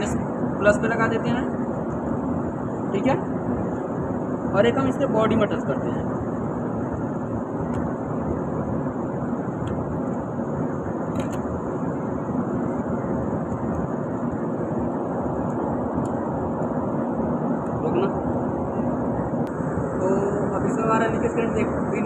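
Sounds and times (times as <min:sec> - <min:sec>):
steady machinery noise: 0:00.0 - 0:22.0.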